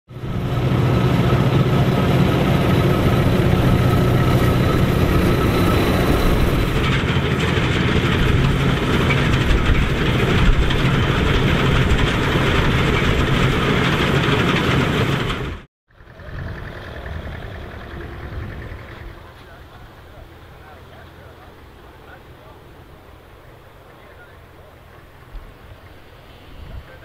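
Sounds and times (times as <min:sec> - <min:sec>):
combine harvester engine hum: 0:00.1 - 0:27.0
threshing machinery working: 0:00.2 - 0:27.0.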